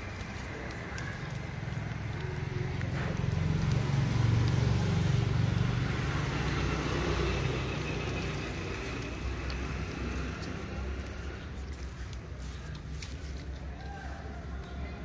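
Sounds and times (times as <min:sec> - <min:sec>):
passing road vehicle rumble: 0:00.0 - 0:15.0.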